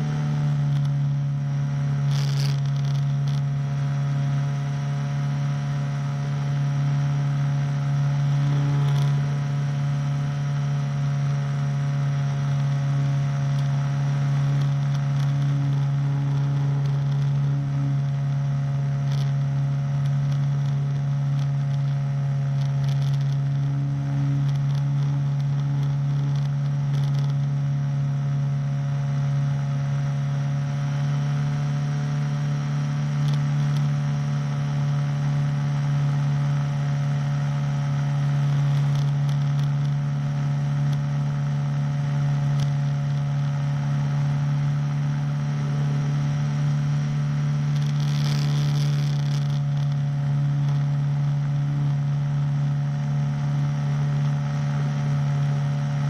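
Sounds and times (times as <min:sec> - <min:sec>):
engine and propeller drone: 0:00.0 - 0:56.0.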